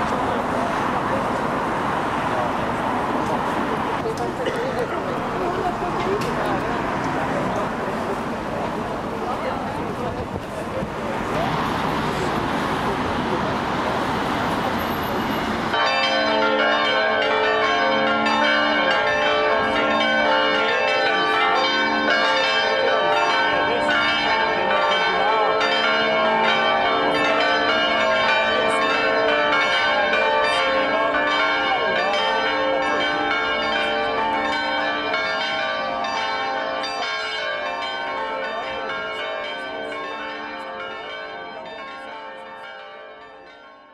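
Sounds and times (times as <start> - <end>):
church bells pealing: 0.0 - 10.1, 10.7 - 43.9.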